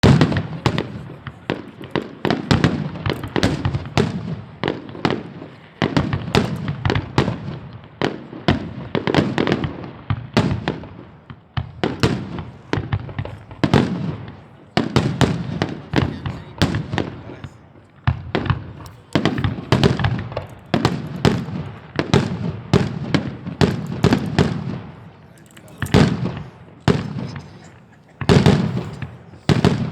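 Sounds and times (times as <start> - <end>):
fireworks bangs and cracks: 0.0 - 29.9.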